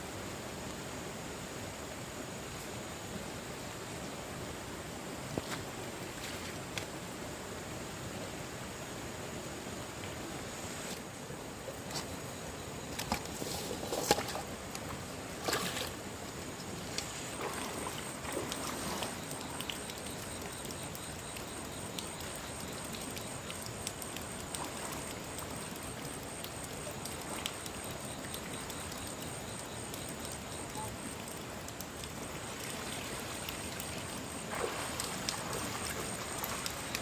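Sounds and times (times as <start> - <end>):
flowing stream water: 0.0 - 37.0.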